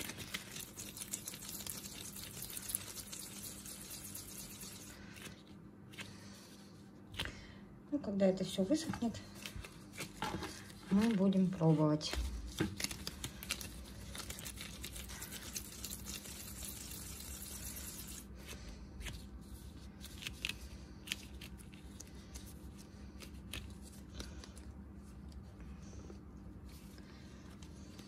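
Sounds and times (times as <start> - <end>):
hands shaping wet paste: 0.0 - 28.0.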